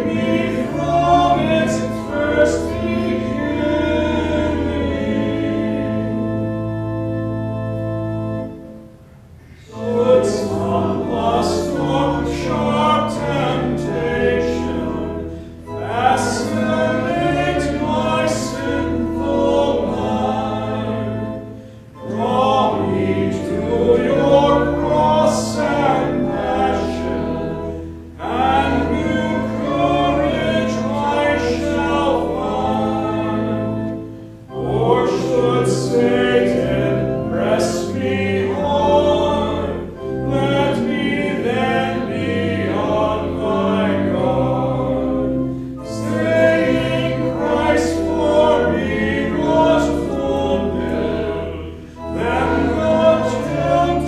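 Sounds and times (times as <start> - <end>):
congregation singing a hymn: 0.0 - 54.0
organ: 0.0 - 54.0.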